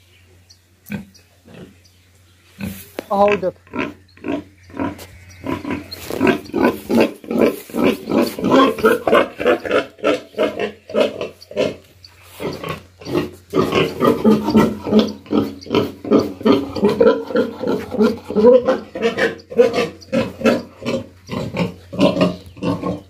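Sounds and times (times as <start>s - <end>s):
pig grunting: 2.6s - 23.0s.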